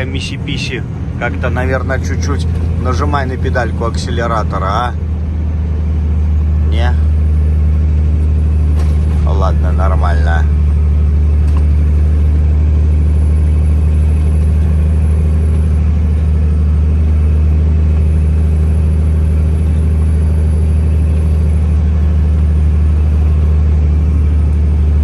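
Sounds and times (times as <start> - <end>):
diesel truck engine droning: 0.0 - 25.0.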